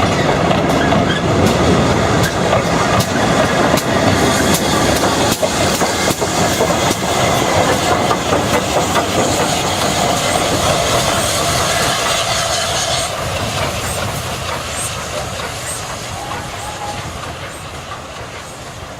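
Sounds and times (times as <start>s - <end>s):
steam train rushing: 0.0s - 18.9s.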